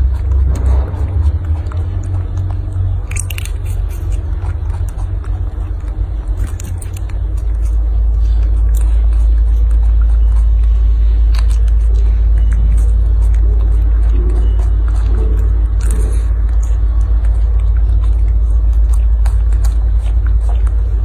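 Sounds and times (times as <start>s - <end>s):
faint biting clicks: 0.0s - 21.0s
loud low rumble: 0.0s - 21.0s.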